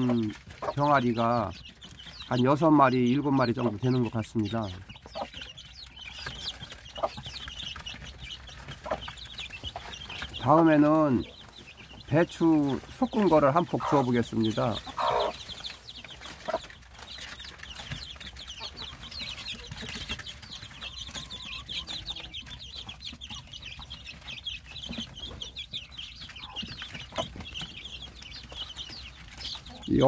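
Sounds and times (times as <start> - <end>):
chicks pecking at leaves: 0.0 - 30.0
chicks peeping: 0.0 - 30.0.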